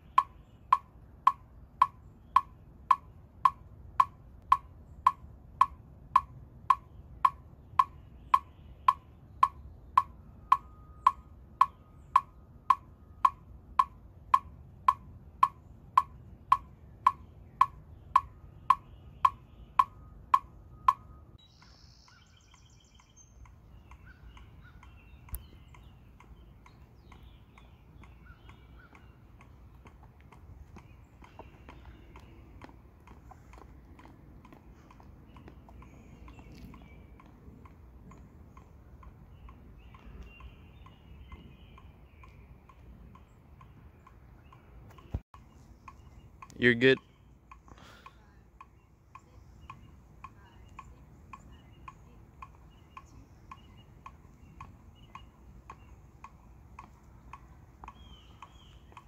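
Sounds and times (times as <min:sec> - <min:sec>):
wood-block metronome clicks: 0:00.0 - 0:59.0.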